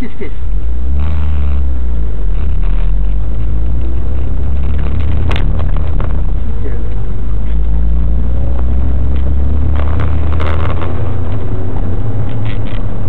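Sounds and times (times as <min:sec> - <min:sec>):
car engine drone inside cabin: 0:00.0 - 0:13.0.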